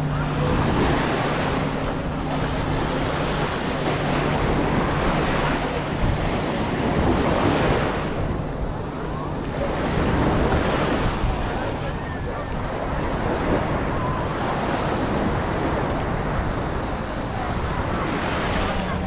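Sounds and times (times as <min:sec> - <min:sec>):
waves washing on sandy shore: 0:00.0 - 0:19.0
wind buffeting microphone: 0:00.0 - 0:19.0.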